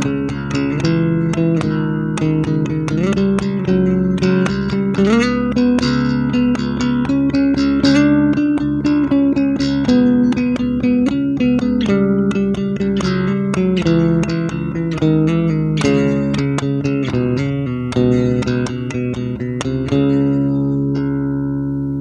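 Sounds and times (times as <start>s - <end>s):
plucked electric bass notes: 0.0s - 22.0s.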